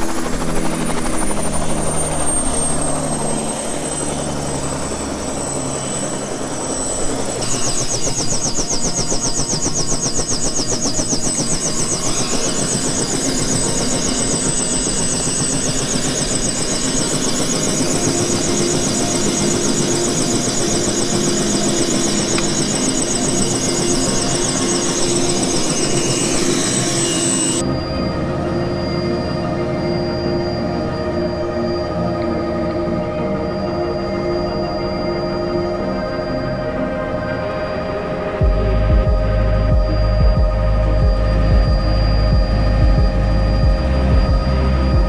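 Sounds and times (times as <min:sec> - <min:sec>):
fast high pulsing: 0:00.0 - 0:36.8, 0:37.7 - 0:45.0
helicopter engine and rotor: 0:00.0 - 0:45.0.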